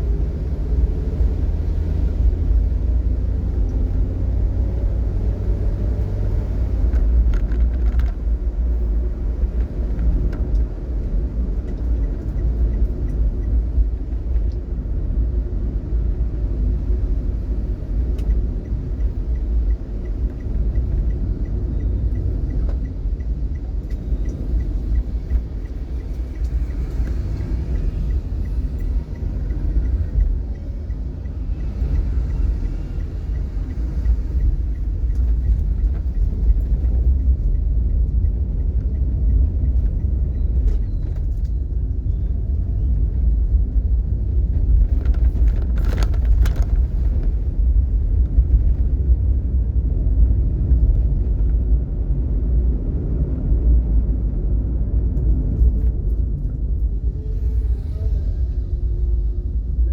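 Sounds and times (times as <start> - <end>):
road noise: 0.0 - 59.9
vehicle engine rumble: 0.0 - 59.9.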